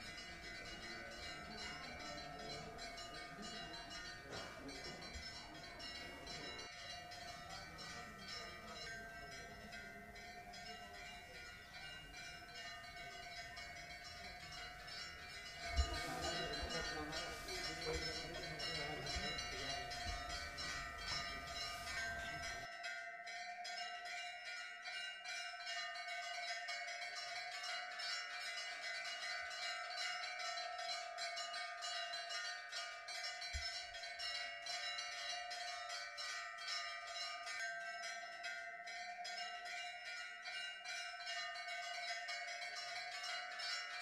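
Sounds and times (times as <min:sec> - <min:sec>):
temple bells clanging: 0:00.0 - 0:44.0.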